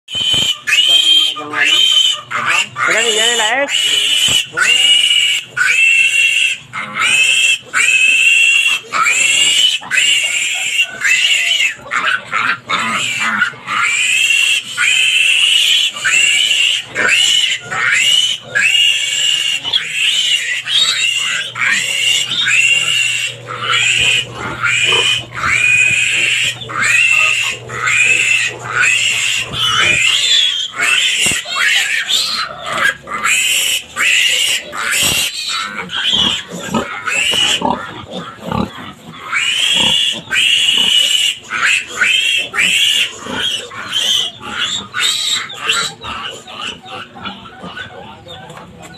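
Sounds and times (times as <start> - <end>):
piglet squealing: 0.1 - 48.9.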